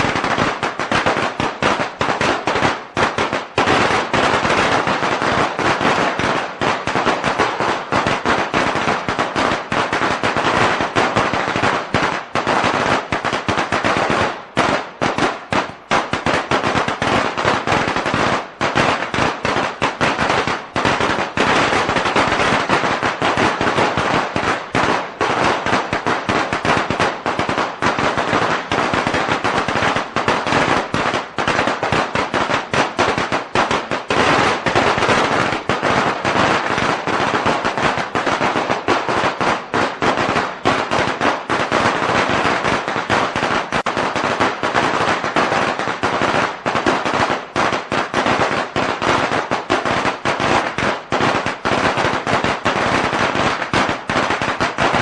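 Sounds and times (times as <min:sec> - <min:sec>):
firecrackers cracking: 0:00.0 - 0:55.0.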